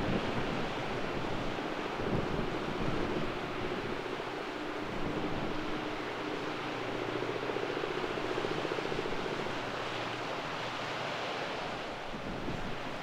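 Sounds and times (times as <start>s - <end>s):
strong wind buffeting microphone: 0.0s - 13.0s
waves breaking on shore: 0.0s - 13.0s.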